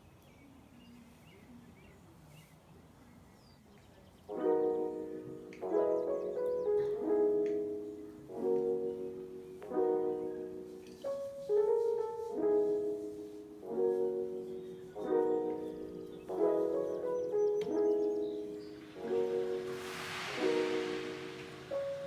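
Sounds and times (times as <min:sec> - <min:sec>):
soft piano chords: 0:04.2 - 0:22.0.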